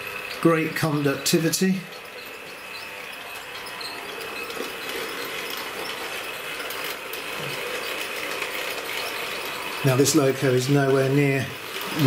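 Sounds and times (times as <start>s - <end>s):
model train motor whirring: 0.0s - 12.0s
wheels clattering on track: 0.0s - 12.0s.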